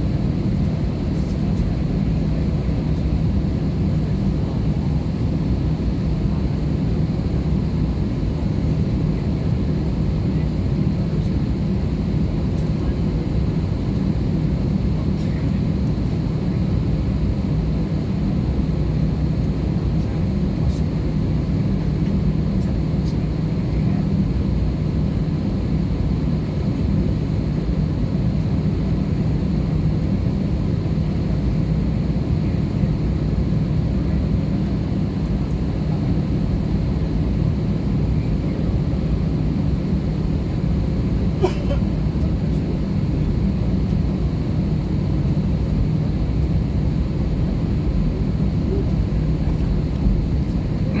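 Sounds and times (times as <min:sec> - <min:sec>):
airplane cabin drone: 0:00.0 - 0:51.0.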